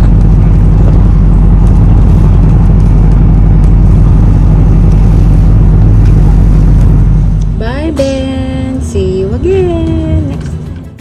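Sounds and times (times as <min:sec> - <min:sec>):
moving vehicle rumble: 0:00.0 - 0:11.0.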